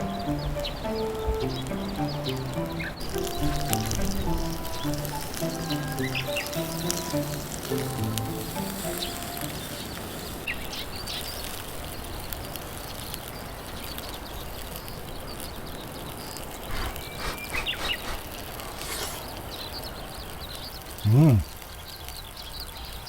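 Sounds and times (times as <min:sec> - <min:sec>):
outdoor hiss: 0:00.0 - 0:14.6, 0:15.2 - 0:21.7
small birds chirping: 0:00.0 - 0:23.0.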